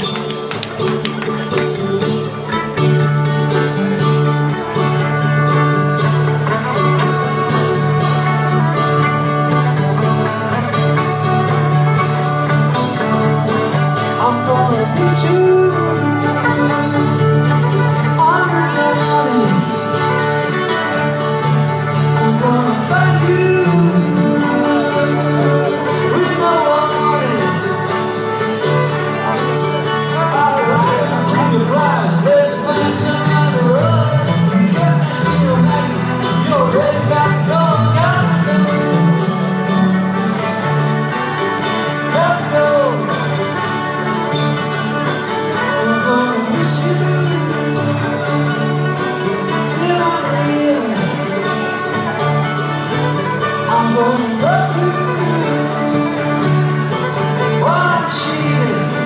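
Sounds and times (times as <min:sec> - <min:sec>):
electric guitar: 0:00.0 - 0:59.0
fiddle melody: 0:00.0 - 0:59.0
strummed acoustic guitar: 0:00.0 - 0:59.0.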